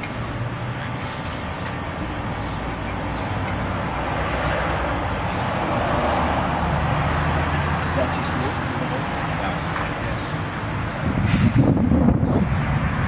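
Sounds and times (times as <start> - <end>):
street traffic rumble and hiss: 0.0 - 13.0.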